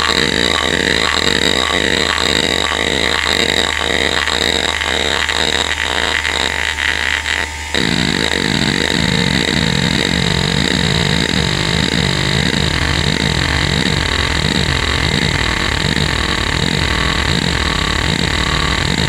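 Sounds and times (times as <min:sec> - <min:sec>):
hard drive buzzing seek noise: 0:00.0 - 0:19.0
hard drive steady whine: 0:00.0 - 0:19.0.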